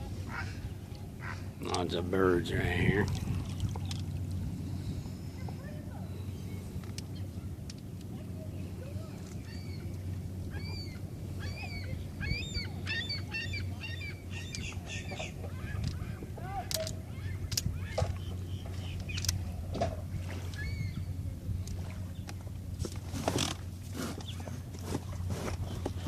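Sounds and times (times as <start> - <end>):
low hum: 0.0 - 26.0
water birds calling: 0.0 - 26.0.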